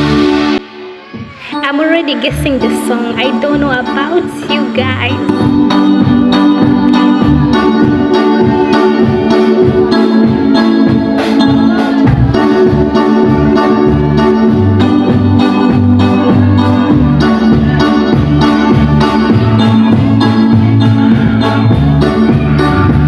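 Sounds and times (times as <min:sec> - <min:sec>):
pulsing bass line: 0:00.0 - 0:00.6, 0:02.3 - 0:23.0
held keyboard chords: 0:00.0 - 0:23.0.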